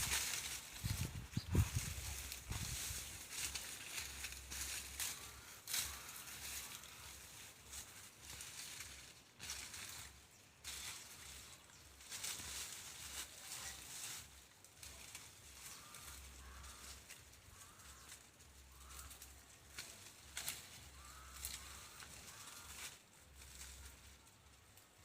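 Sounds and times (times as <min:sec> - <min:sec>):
rustling of dry weeds: 0:00.0 - 0:25.0.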